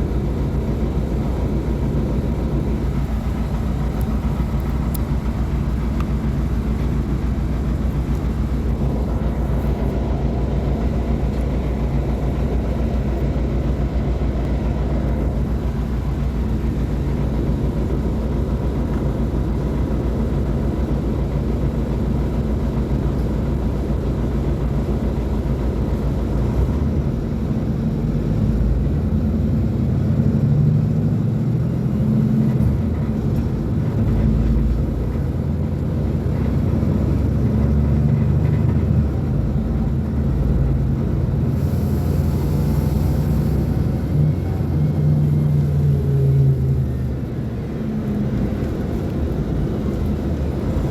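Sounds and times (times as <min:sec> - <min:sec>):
diesel bus engine idling and revving: 0:00.0 - 0:50.9.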